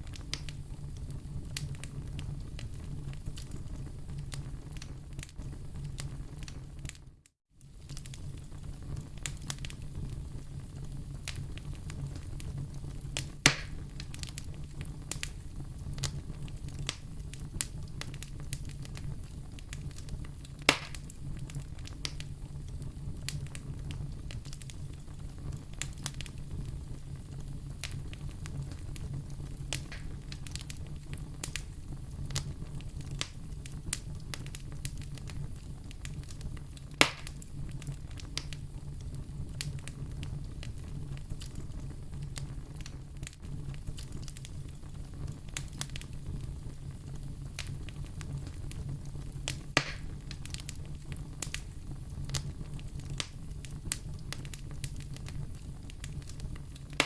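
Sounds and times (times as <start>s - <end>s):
sharp fire pops: 0.0s - 7.0s, 7.7s - 57.0s
fire crackling: 0.0s - 57.0s
low fire rumble: 0.0s - 57.0s.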